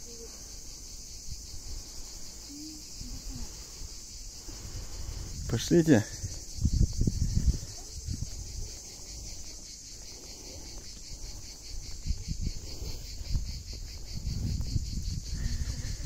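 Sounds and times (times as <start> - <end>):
insects shrilling: 0.0 - 16.0.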